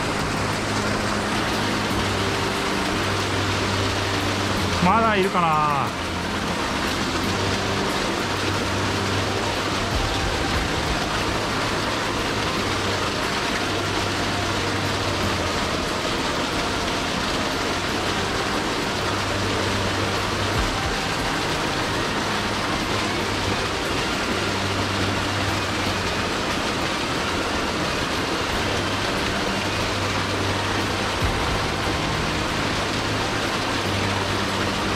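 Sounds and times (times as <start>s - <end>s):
stream water rushing over rocks: 0.0s - 34.9s.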